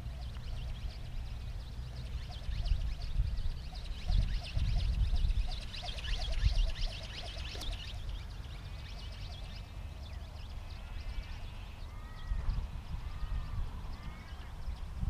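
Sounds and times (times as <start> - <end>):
birds chirping rapidly: 0.0 - 15.0
wind rumbling on microphone: 0.0 - 15.0.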